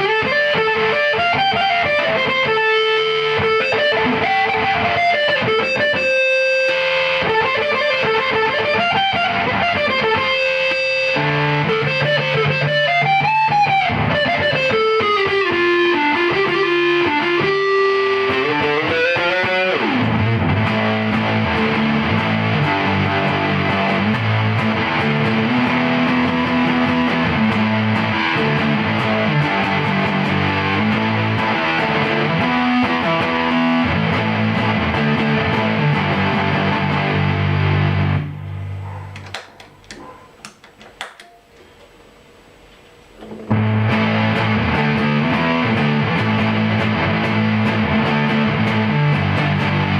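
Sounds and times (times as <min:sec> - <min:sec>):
distorted guitar chords: 0:00.0 - 0:38.9, 0:43.2 - 0:49.9
fuzzy electric guitar lead: 0:00.0 - 0:38.9, 0:43.2 - 0:49.9.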